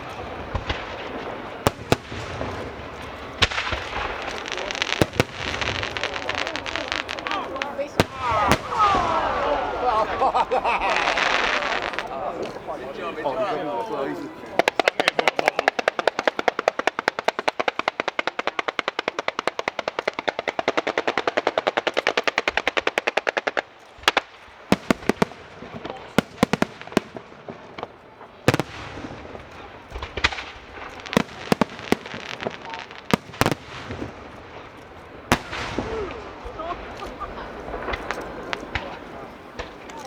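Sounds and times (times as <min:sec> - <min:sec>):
firework bangs and crackles: 0:00.0 - 0:40.0
fireworks cracking: 0:00.0 - 0:40.0.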